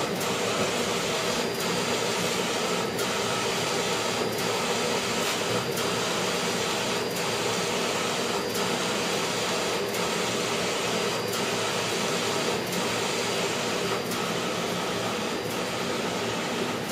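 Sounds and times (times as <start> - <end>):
printer carriage whirring: 0.0 - 16.9.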